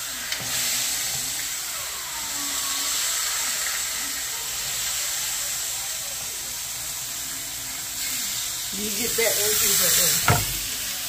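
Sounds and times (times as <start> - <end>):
pork chops sizzling in oil: 0.0 - 11.0.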